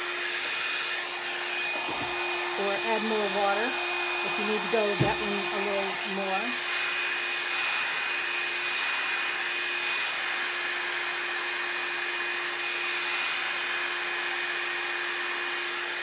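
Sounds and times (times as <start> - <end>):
hot air brush running: 0.0 - 16.0.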